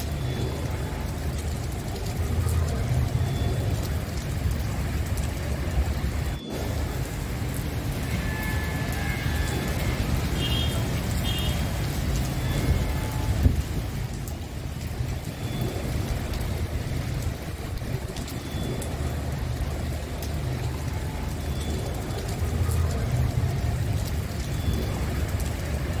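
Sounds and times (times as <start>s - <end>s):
rain hissing: 0.0s - 26.0s.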